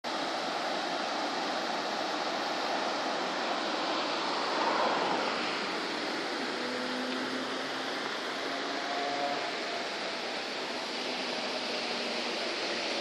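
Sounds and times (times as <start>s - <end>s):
river water rushing: 0.1s - 13.0s.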